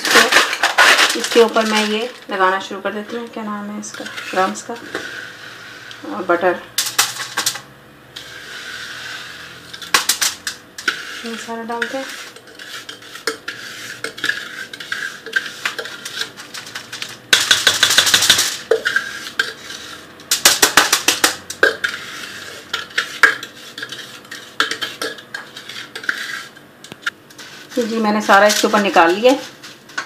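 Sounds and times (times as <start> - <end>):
utensil scraping a bowl: 3.1 - 6.3, 8.2 - 30.0.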